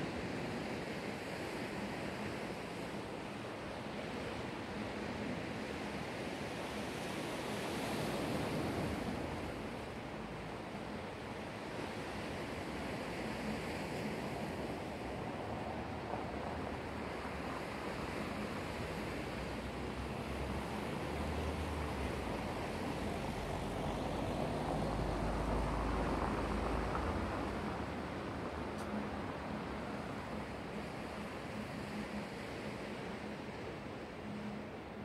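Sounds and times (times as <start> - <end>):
waves washing on shore: 0.0 - 35.0.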